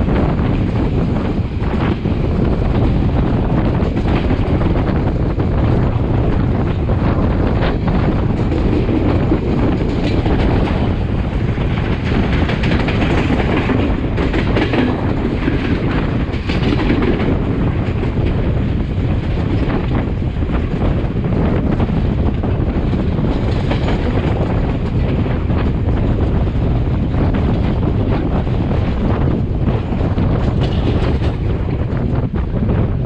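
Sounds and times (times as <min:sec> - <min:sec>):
rail joint clicks: 0:00.0 - 0:33.0
train wheels rumbling on rail: 0:00.0 - 0:33.0.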